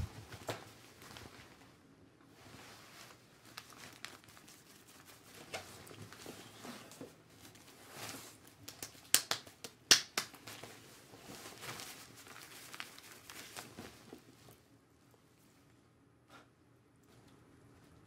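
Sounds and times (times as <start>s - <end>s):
rustling of hair and plastic cape: 0.0s - 15.7s.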